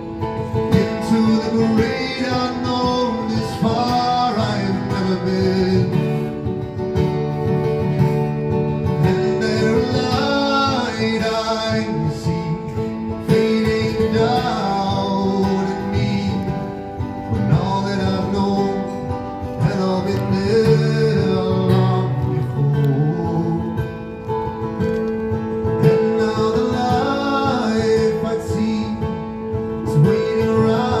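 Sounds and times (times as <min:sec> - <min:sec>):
acoustic guitar: 0:00.0 - 0:31.0.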